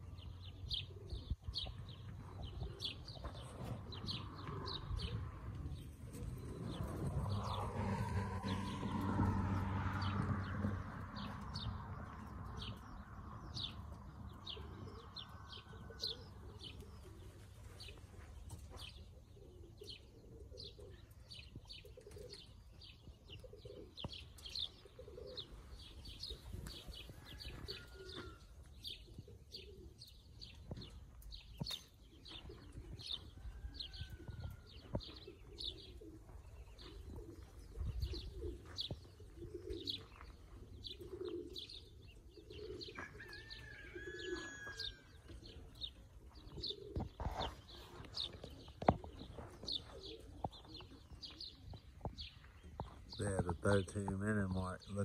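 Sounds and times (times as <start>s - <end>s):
pigeons cooing: 0.0s - 55.0s
small birds chirping: 0.0s - 55.0s.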